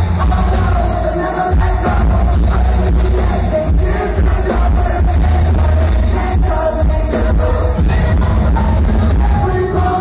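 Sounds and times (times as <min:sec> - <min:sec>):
live rock band playing: 0:00.0 - 0:10.0
vocalist singing: 0:00.0 - 0:10.0.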